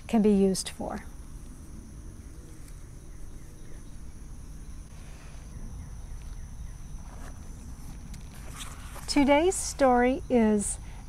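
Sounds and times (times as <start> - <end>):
insect trilling: 0.4 - 11.0.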